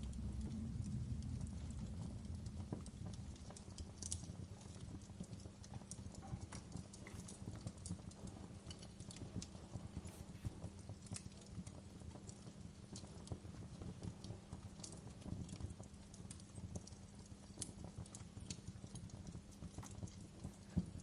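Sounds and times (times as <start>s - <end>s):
fire pops and snaps: 0.0s - 21.0s
low rumble of burning: 0.0s - 21.0s
wood fire crackling: 0.0s - 21.0s.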